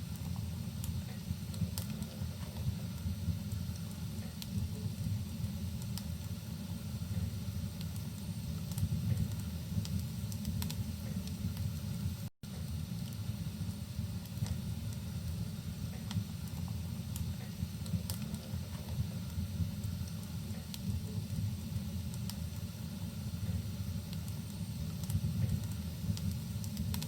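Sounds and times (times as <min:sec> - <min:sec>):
rain rumble: 0:00.0 - 0:27.0
wood fire crackling: 0:00.0 - 0:27.0.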